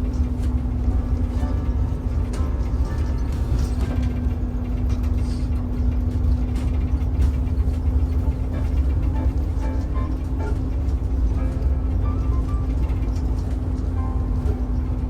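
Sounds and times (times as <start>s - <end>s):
bus engine and road rumble: 0.0s - 15.0s
constant hum: 0.0s - 15.0s.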